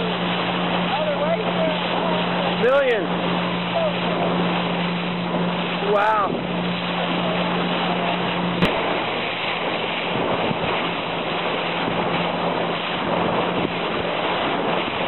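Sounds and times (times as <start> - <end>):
boat engine humming: 0.0 - 15.0
water rushing past hull: 0.0 - 15.0
wind buffeting microphone: 0.0 - 15.0.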